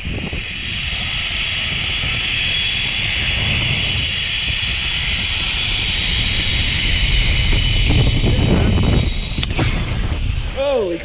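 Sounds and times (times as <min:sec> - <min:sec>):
wind rushing over microphone: 0:00.0 - 0:11.0
zipline pulleys whirring on cable: 0:00.0 - 0:11.0.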